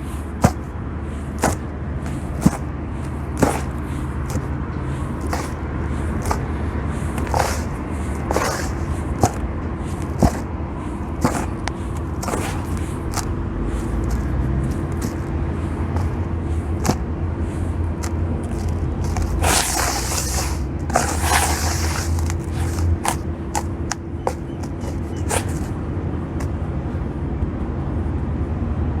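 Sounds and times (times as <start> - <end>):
steady low hum: 0.0 - 29.0
wet sand crunching and crackling: 0.2 - 17.1, 18.0 - 25.7.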